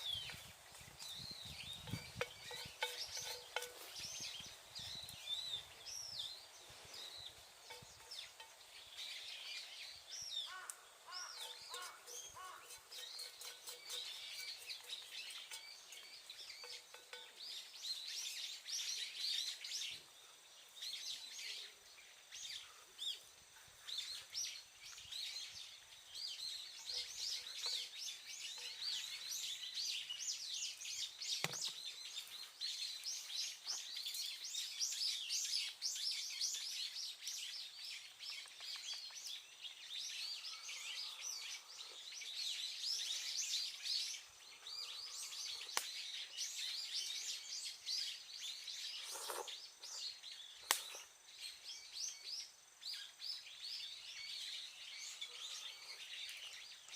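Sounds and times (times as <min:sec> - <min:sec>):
birds chirping and calling: 0:00.0 - 0:56.9.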